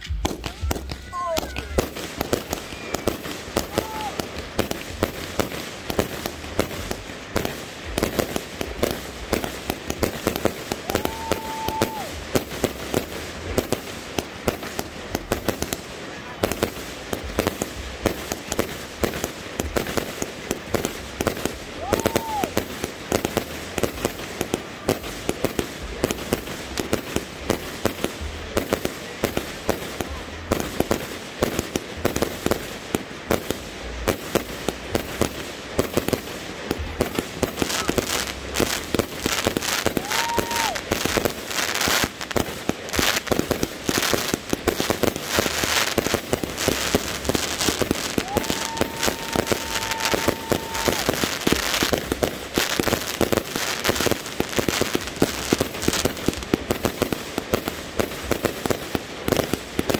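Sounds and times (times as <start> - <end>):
firework bangs and pops: 0.0 - 59.9
firework crackle: 0.0 - 59.9.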